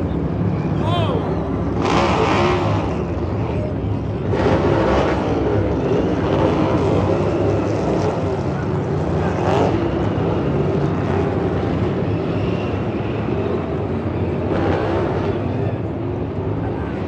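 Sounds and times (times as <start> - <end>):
race car engines at speed: 0.0 - 17.0.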